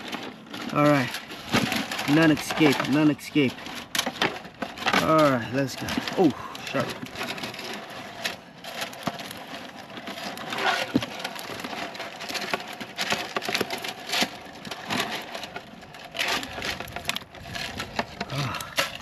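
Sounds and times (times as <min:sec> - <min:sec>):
handling fish knocks and rustling: 0:00.0 - 0:19.0.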